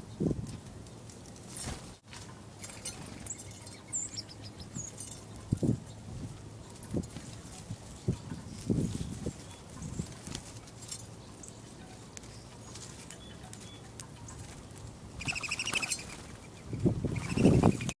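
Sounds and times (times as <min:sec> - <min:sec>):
small songbirds calling: 0:02.6 - 0:18.0.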